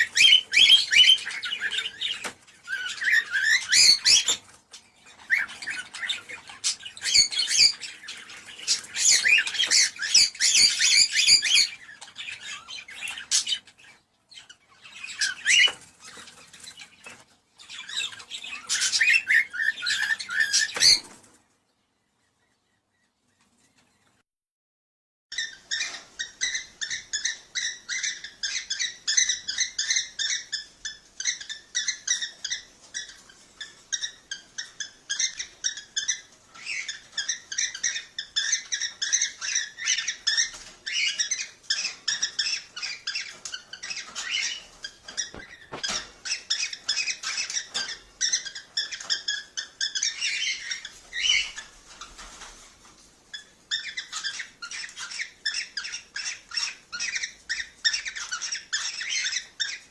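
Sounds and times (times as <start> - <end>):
cockatiels chirping: 0.0 - 21.4, 25.3 - 59.9.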